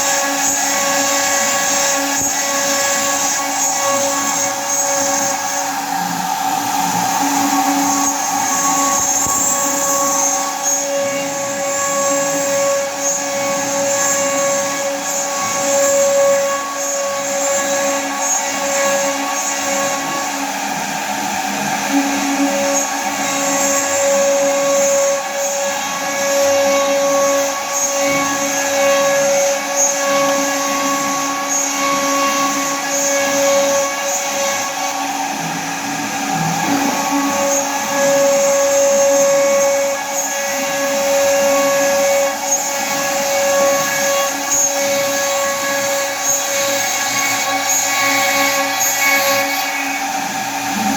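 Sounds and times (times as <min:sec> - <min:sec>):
cnc router machine whine: 0:00.0 - 0:50.9.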